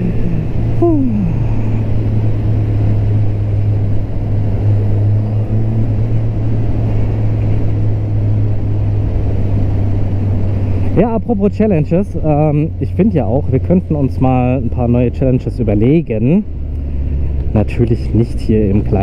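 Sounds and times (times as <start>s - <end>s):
motorcycle engine drone: 0.0s - 19.0s
road noise: 0.0s - 19.0s.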